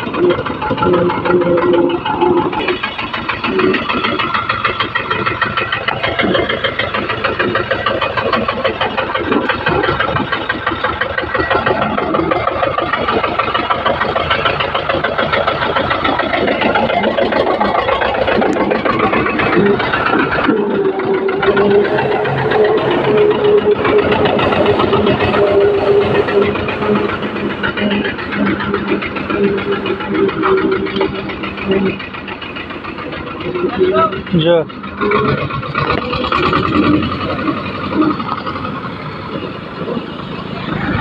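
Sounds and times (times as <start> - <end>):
old tractor engine knocking: 0.0 - 41.0.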